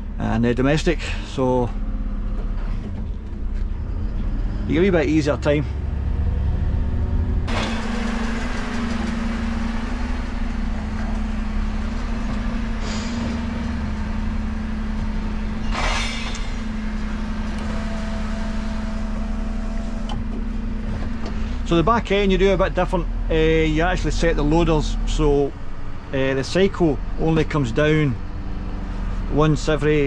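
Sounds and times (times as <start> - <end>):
truck engine humming: 0.0 - 30.0.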